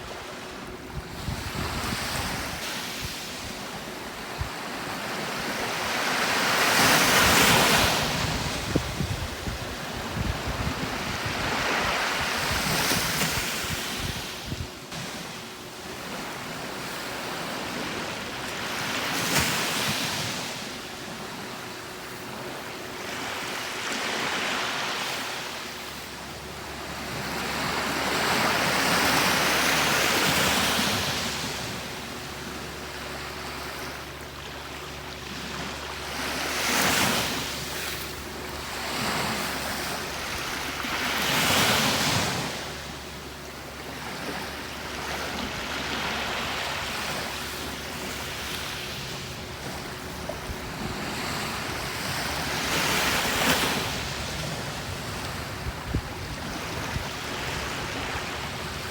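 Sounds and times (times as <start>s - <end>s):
sea waves breaking on beach: 0.0s - 58.9s.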